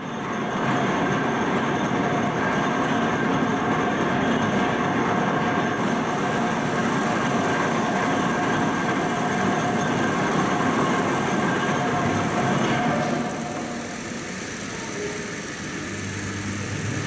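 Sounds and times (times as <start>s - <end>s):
machinery running steadily: 0.0s - 17.0s
constant whining tones: 3.2s - 17.0s.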